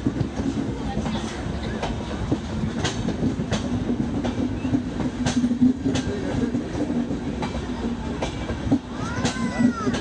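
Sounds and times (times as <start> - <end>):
train rumbling on track: 0.0 - 10.0
wheels clicking over rail joints: 0.0 - 10.0.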